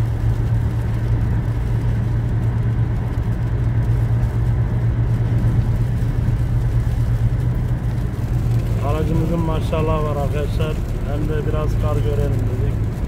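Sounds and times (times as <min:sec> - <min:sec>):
car engine drone: 0:00.0 - 0:13.0
road and wind noise: 0:00.0 - 0:13.0.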